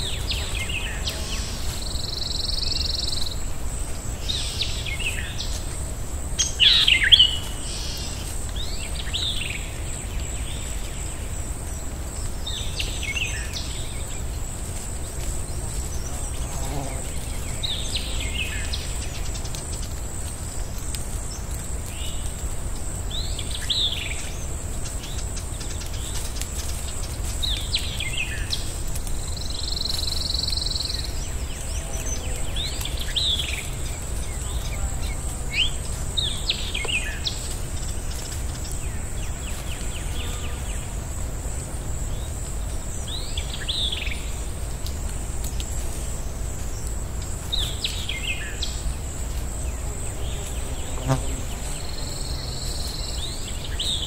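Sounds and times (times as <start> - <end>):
wild birds chirping: 0.0 - 54.0.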